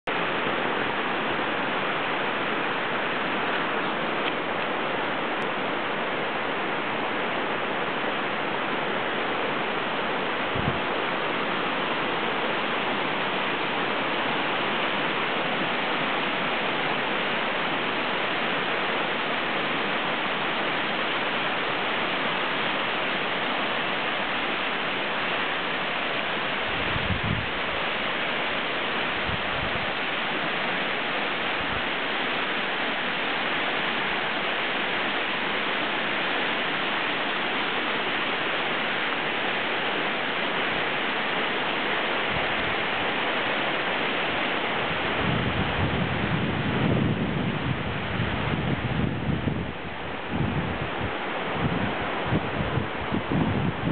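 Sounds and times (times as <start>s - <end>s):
river rushing over gravel: 0.0s - 53.9s.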